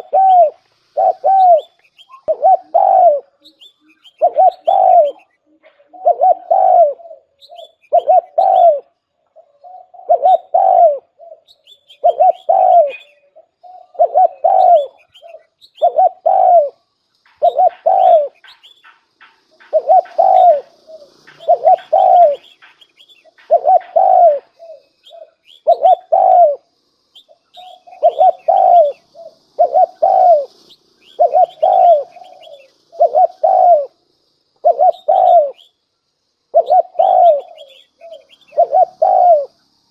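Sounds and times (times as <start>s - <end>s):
dove cooing: 0.0s - 34.0s, 34.6s - 35.7s, 36.5s - 39.6s
small birds chirping: 0.0s - 39.9s.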